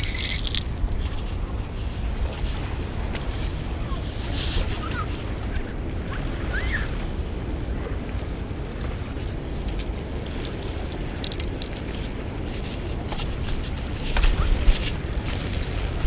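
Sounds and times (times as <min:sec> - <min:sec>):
small waves washing on shore: 0:00.0 - 0:16.0
wind rumble on microphone: 0:00.0 - 0:16.0.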